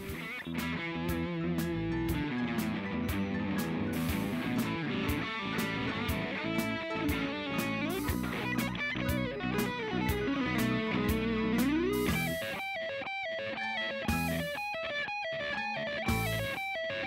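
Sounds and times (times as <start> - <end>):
guitar picked notes: 0.0 - 17.0
rock music with electric guitar: 0.0 - 17.0.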